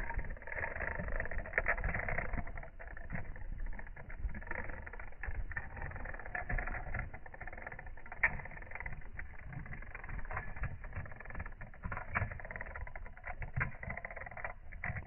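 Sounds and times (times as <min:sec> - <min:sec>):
wire legs tapping and rattling: 0:00.0 - 0:15.0.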